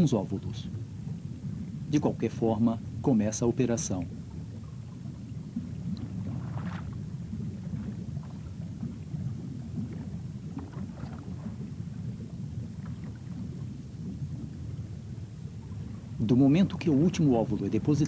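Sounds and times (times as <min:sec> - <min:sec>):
underwater rumble of water: 0:00.0 - 0:18.0.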